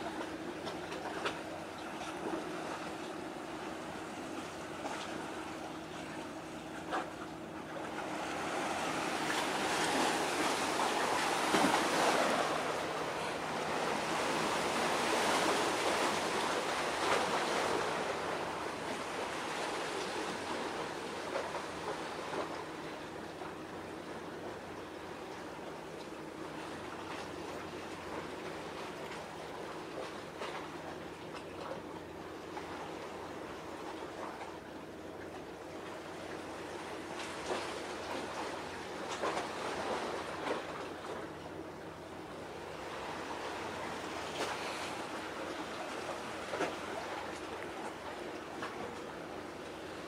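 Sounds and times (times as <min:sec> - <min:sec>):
waves washing: 0:00.0 - 0:25.6, 0:35.5 - 0:50.0
wind: 0:00.0 - 0:50.0.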